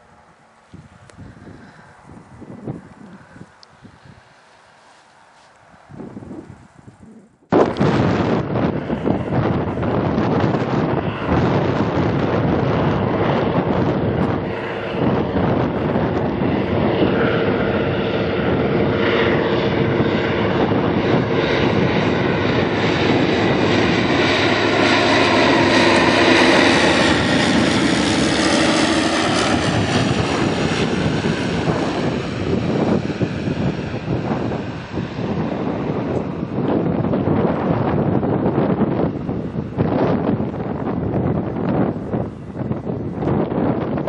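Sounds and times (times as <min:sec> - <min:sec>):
propeller airplane engine passing: 0:00.0 - 0:44.0.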